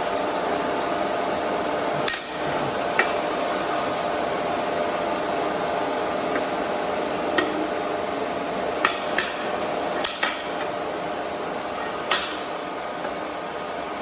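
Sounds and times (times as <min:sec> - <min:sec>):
cooling fan hum: 0:00.0 - 0:14.0.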